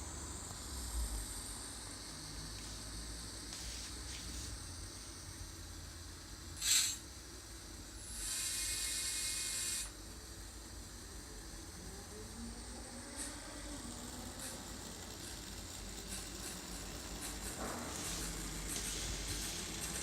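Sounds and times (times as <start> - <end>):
steam hiss with ringing tones: 0.0 - 20.0.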